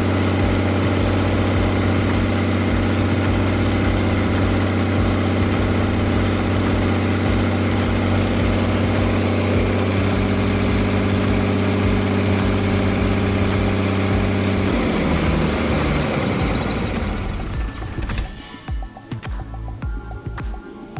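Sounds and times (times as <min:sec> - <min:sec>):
diesel bus engine idling: 0:00.0 - 0:18.6.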